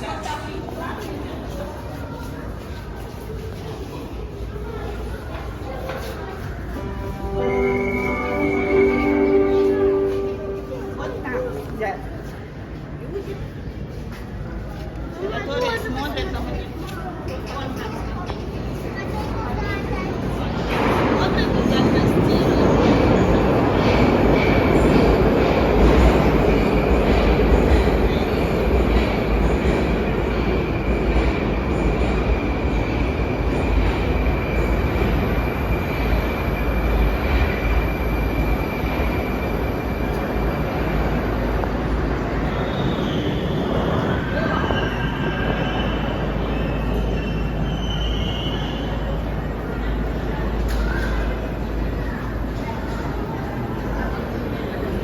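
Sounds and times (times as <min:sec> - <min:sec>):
train running through station: 0:00.0 - 0:55.0.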